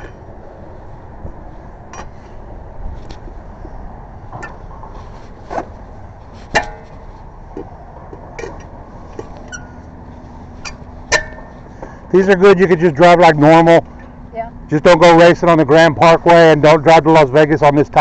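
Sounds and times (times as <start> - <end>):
passing traffic rumble: 0.0 - 18.0.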